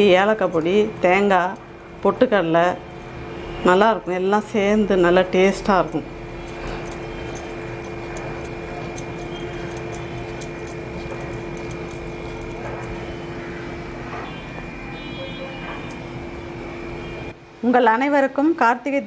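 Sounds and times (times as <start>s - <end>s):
mechanical hum of fan: 0.0s - 19.0s.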